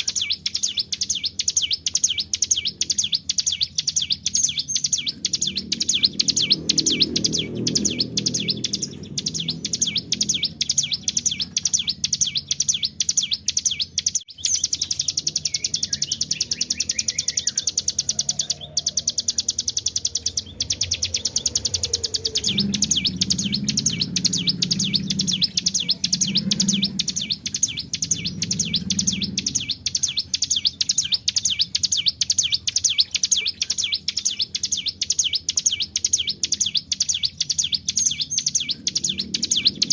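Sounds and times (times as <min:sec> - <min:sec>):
bird singing a rattling trill: 0:00.0 - 0:39.9.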